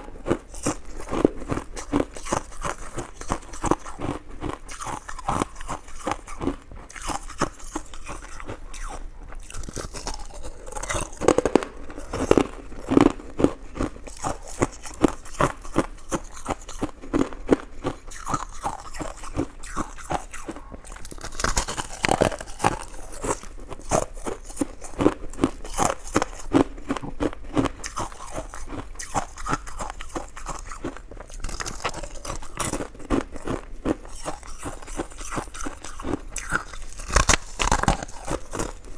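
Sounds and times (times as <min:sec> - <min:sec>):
chewing and crunching mouth sounds: 0:00.0 - 0:38.9.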